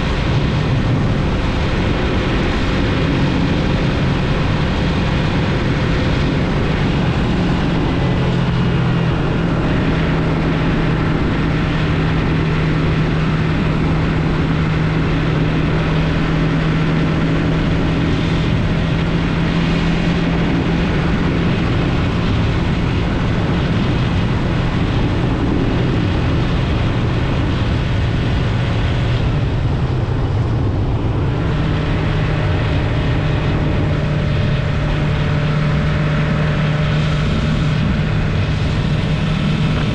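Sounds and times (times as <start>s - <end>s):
motorcycle engine running: 0.0s - 39.9s
rushing wind: 0.0s - 39.9s.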